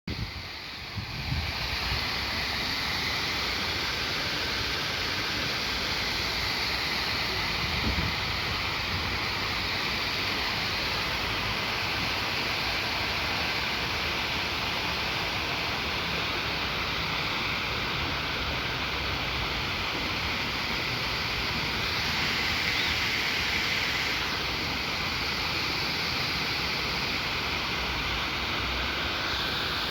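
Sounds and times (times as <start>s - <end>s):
waterfall rushing: 0.2s - 29.9s.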